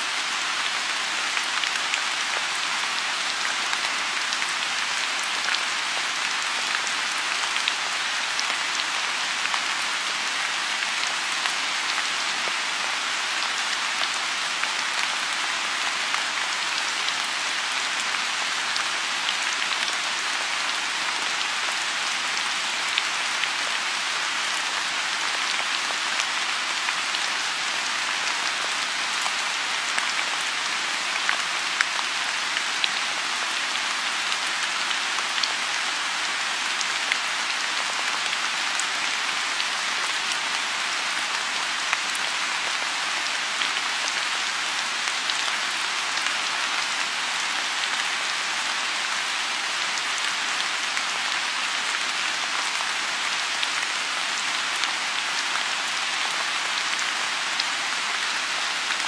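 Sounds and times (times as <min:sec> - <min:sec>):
rain falling on pond: 0:00.0 - 0:59.0.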